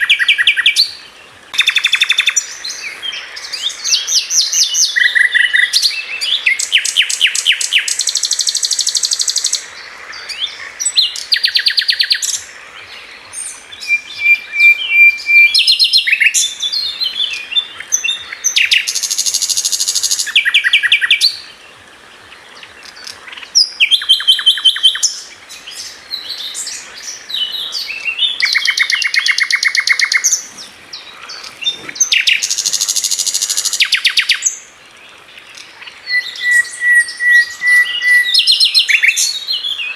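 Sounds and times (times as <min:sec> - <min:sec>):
songbird trilling: 0:00.0 - 0:21.6, 0:22.6 - 0:34.7, 0:35.4 - 0:39.9.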